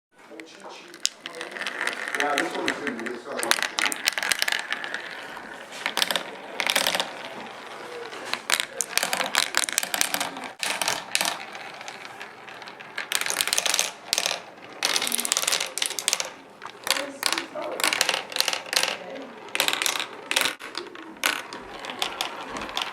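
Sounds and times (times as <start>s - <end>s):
marbles clattering down marble run: 0.4s - 22.9s.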